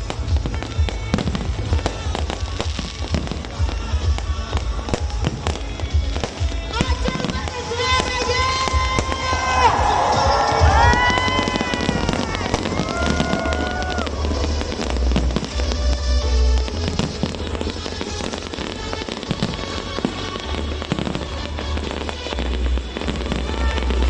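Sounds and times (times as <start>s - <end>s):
deep fireworks booms: 0.0s - 24.0s
fireworks bangs and crackles: 0.0s - 24.0s
music: 0.0s - 24.0s.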